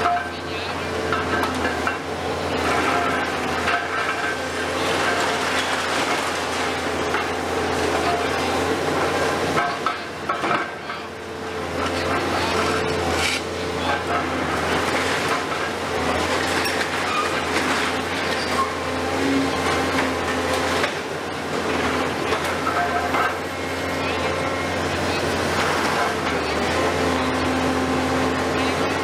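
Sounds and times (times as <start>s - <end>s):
excavator engine and hydraulics drone: 0.0s - 29.0s.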